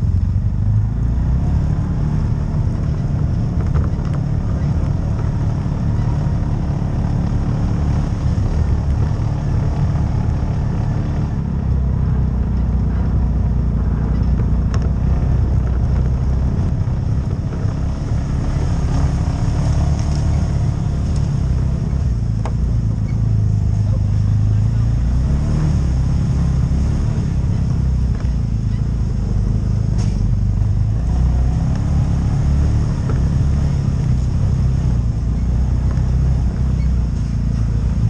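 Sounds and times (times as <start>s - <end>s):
off-road vehicle engine droning: 0.0s - 38.0s.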